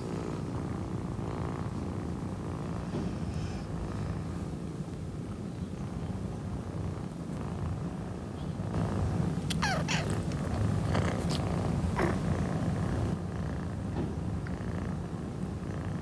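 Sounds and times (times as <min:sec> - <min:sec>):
kitten purring: 0:00.0 - 0:05.0, 0:05.8 - 0:16.0.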